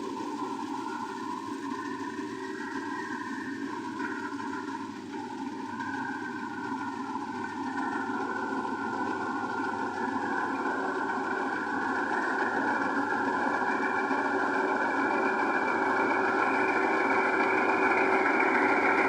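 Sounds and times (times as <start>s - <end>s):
combine harvester engine drone: 0.0s - 19.0s
high whining tones: 0.0s - 19.0s.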